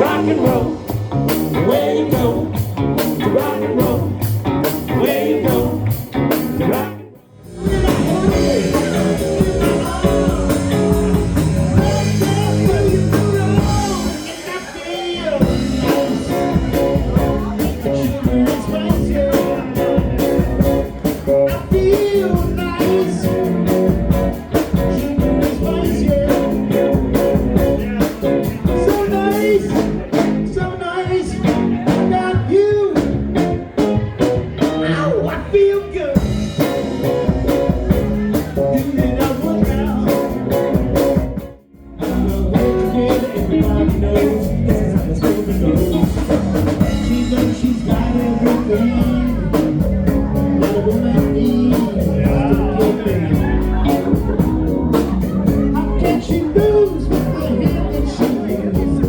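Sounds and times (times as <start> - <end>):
rock and roll band playing: 0.0 - 59.0.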